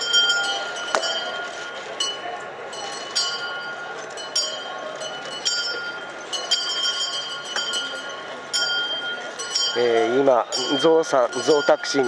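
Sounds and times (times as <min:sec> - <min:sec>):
metal bells ringing: 0:00.0 - 0:12.0.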